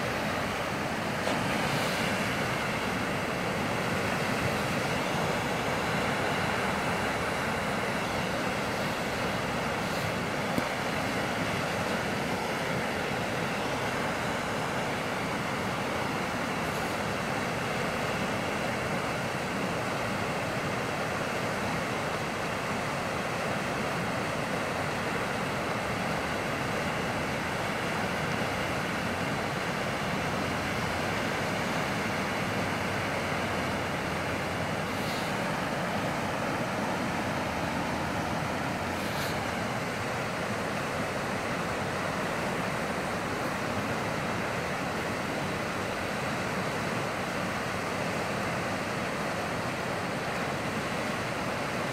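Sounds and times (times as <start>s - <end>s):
floodwater rushing: 0.0s - 51.9s.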